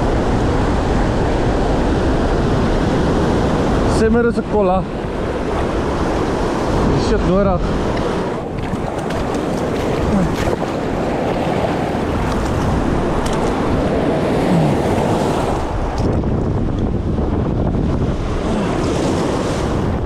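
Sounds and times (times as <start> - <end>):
sea surf washing on shore: 0.0 - 20.0
wind buffeting microphone: 0.0 - 20.0.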